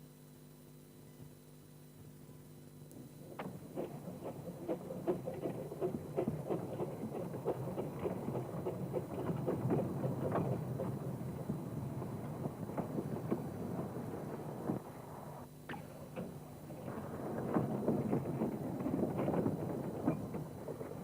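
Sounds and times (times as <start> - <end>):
steam train clicking and clanking: 3.3 - 15.4, 16.1 - 21.0.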